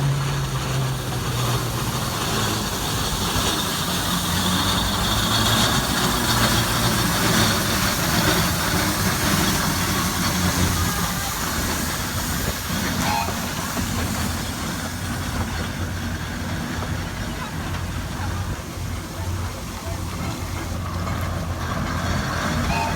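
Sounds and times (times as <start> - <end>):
steam engine mechanical drone: 0.0 - 22.9
steam hissing: 0.0 - 22.9.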